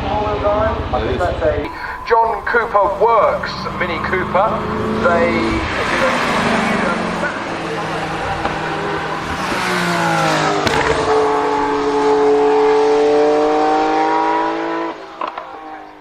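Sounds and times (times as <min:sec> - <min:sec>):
car engine accelerating hard: 0:00.8 - 0:16.0.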